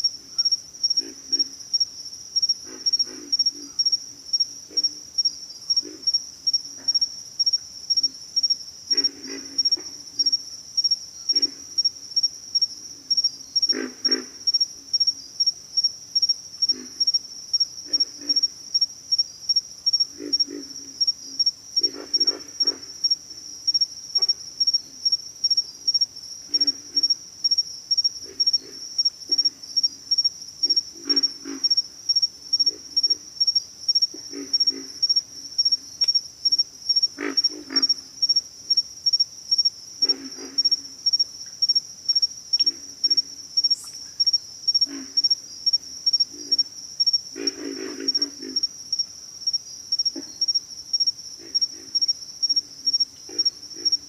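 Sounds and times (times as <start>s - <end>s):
frogs grunting: 0.3s - 1.8s, 2.4s - 7.1s, 8.9s - 10.4s, 11.3s - 12.0s, 12.6s - 15.0s, 16.6s - 18.9s, 19.8s - 54.0s.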